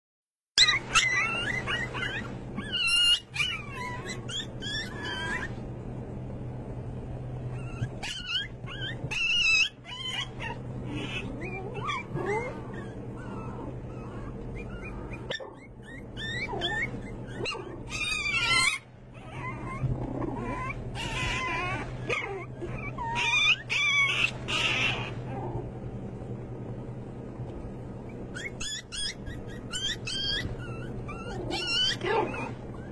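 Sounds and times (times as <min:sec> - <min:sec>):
puppies whining and yipping: 0:00.6 - 0:05.6, 0:07.4 - 0:25.6, 0:28.0 - 0:32.9
low hum: 0:00.6 - 0:32.9.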